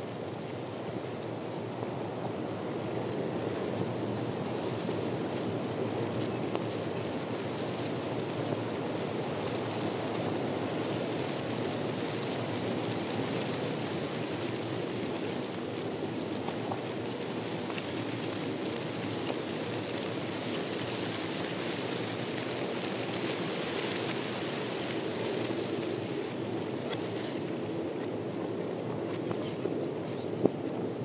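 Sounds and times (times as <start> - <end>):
faint crackles: 0.0 - 31.0.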